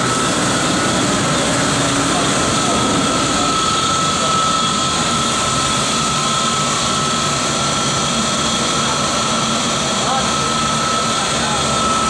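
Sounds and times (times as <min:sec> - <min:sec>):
air blower whine: 0:00.0 - 0:12.0.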